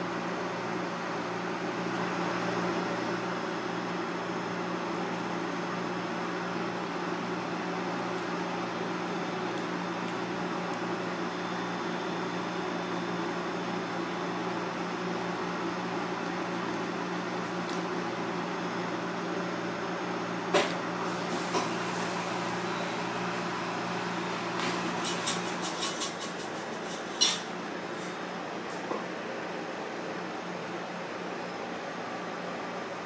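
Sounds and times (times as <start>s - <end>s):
kitchen machine hum: 0.0s - 33.0s.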